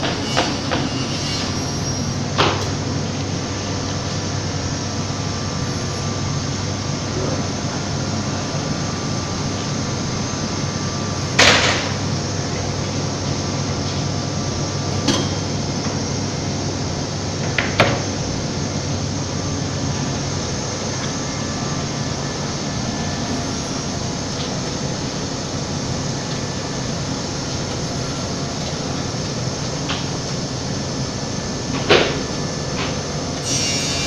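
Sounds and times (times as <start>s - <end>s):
cnc router drone: 0.0s - 34.0s.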